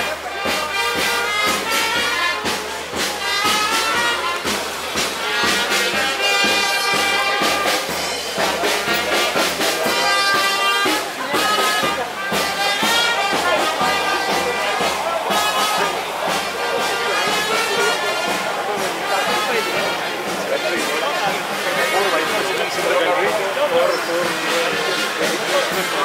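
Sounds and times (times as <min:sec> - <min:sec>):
brass music over steady beat: 0:00.0 - 0:26.0.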